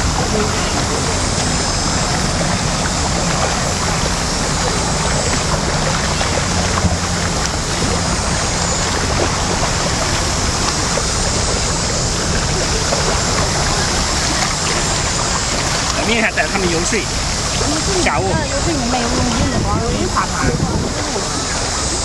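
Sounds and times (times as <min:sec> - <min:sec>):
river water rushing over stones: 0:00.0 - 0:22.0.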